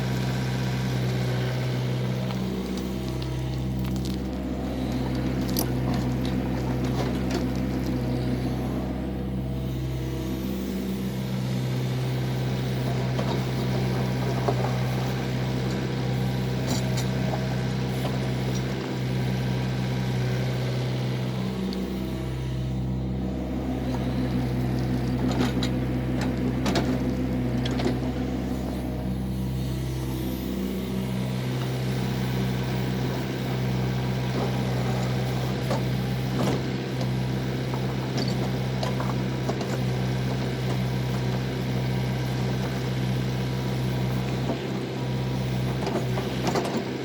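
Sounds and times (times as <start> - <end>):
excavator engine running: 0.0 - 47.0.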